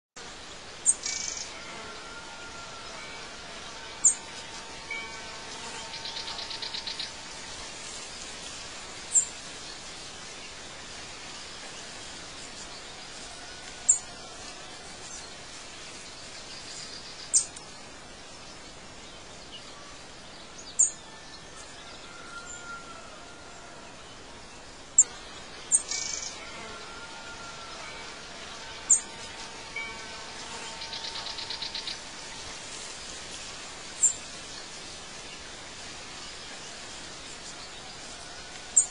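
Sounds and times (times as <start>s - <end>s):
outdoor ambience hiss: 0.2s - 38.9s.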